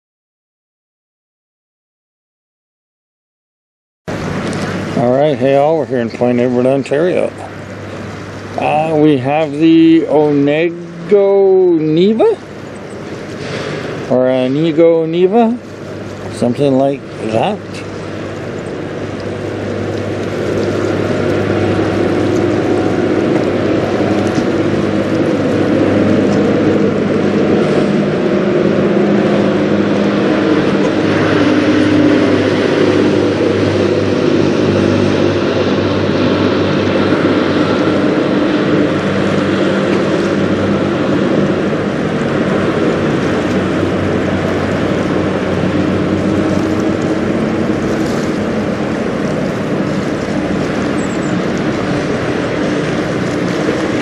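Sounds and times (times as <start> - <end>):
ship diesel engine droning: 4.1 - 54.0
wind and water hiss: 4.1 - 54.0.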